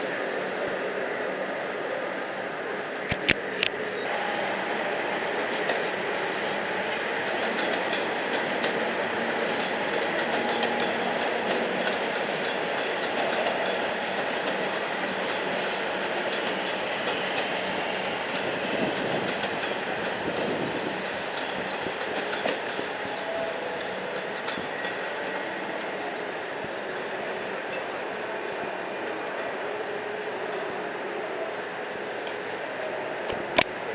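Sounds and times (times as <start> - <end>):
electric train passing: 0.0 - 33.9
wheel-on-rail noise: 2.5 - 33.9.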